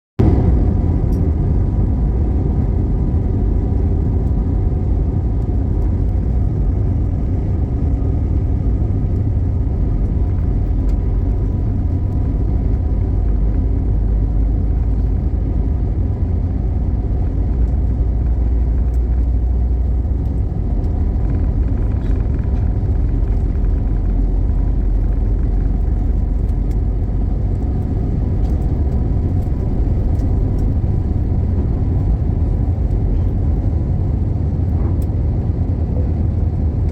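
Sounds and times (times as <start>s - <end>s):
moving vehicle rumble: 0.2s - 36.9s.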